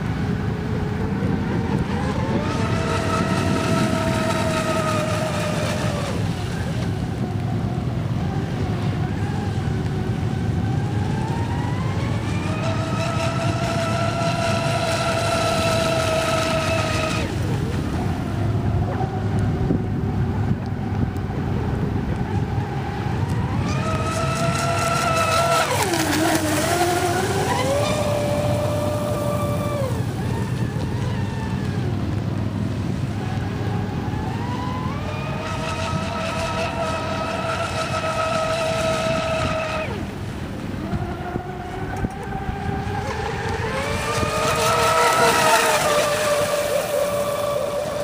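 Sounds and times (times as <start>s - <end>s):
boat motor whining: 0.0s - 48.0s
low wind rumble on microphone: 0.0s - 48.0s.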